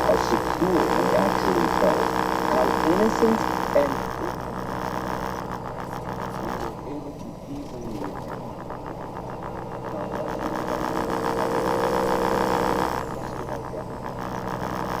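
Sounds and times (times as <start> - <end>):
fast rhythmic pulsing: 0.0 - 15.0
road noise: 0.0 - 15.0
vehicle engine: 0.0 - 15.0.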